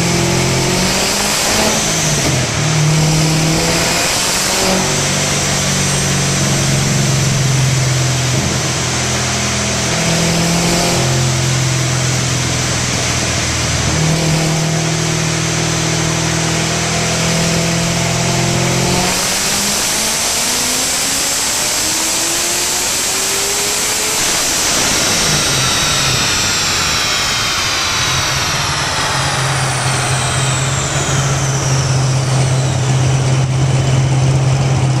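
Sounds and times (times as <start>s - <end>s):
car engine running: 0.0s - 35.0s
high whine from spinning rollers: 0.0s - 35.0s.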